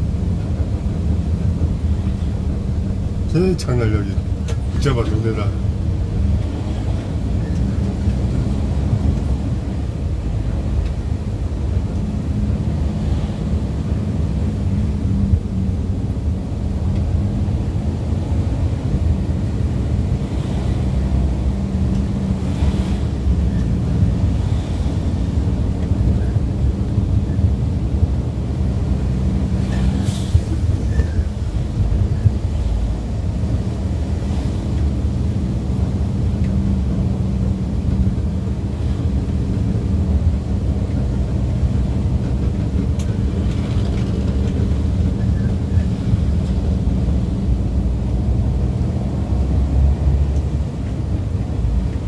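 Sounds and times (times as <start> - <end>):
constant hum: 0.0 - 52.0
engine and road noise rumble: 0.0 - 52.0.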